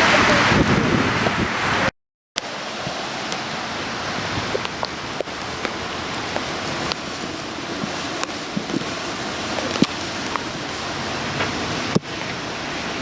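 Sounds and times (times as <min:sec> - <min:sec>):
heavy rain hissing: 0:00.0 - 0:13.0
raindrops ticking: 0:02.4 - 0:12.8.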